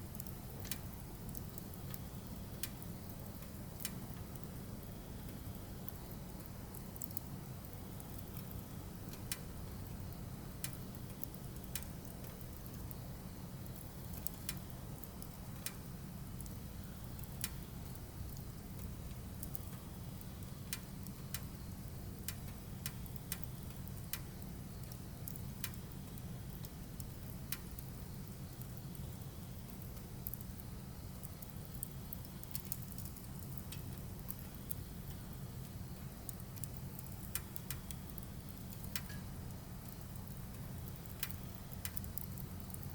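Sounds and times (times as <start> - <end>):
fire low rumble: 0.0 - 42.9
firewood crackling and popping: 0.0 - 42.9.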